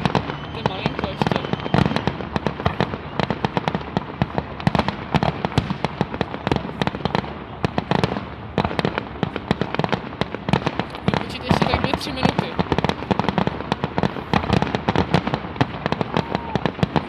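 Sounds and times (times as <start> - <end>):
firework bangs: 0.0 - 17.0
firework crackle: 0.0 - 17.0.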